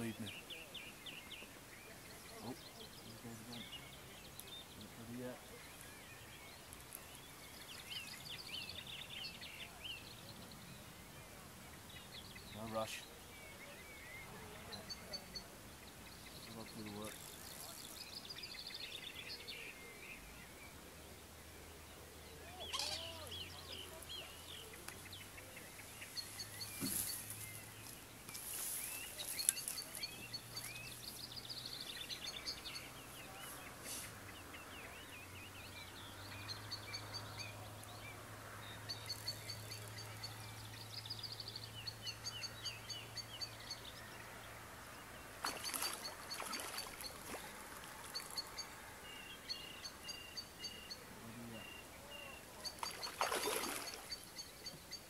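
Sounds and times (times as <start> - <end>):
faint outdoor background noise: 0.0 - 55.0
small birds chirping: 0.0 - 55.0.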